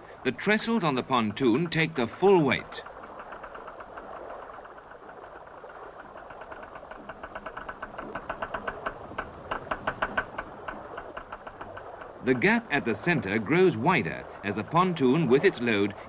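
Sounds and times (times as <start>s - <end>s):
deck winch mechanical rattle: 0.0s - 16.0s.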